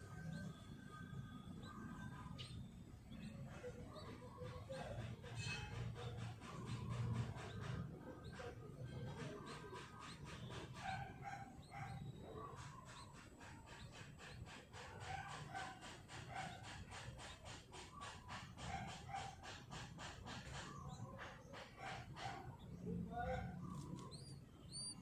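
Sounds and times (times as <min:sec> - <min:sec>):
bird chicks calling raspily: 0:00.0 - 0:25.0.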